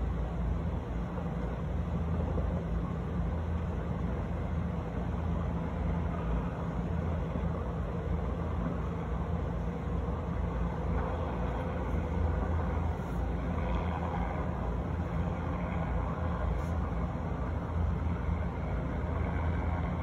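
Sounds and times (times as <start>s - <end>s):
distant city rumble: 0.0s - 20.0s.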